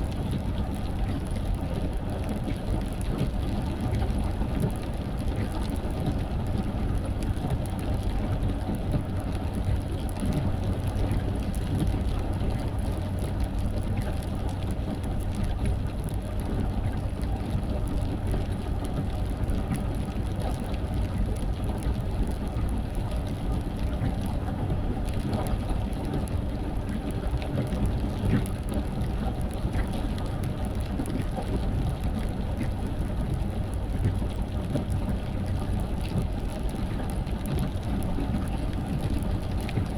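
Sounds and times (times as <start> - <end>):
car engine and tyres on wet road: 0.0 - 39.9
rain ticks: 0.0 - 39.9.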